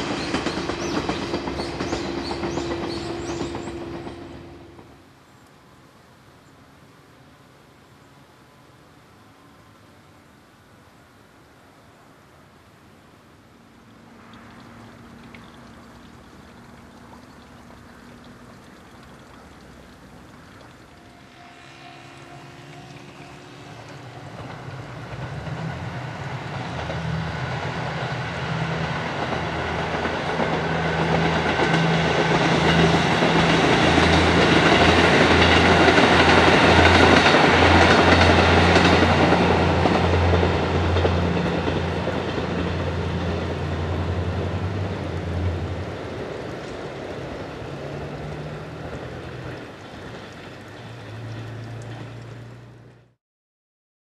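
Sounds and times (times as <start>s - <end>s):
diesel train passing: 0.0s - 5.9s, 13.6s - 53.2s.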